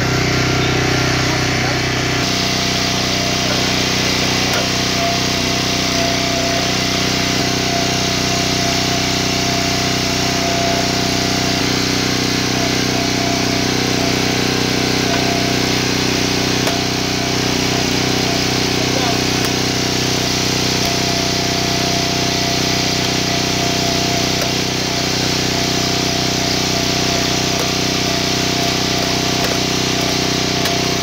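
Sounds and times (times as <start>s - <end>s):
hydraulic ram crushing laptop: 0.0s - 31.0s
small gas engine running: 0.0s - 31.0s.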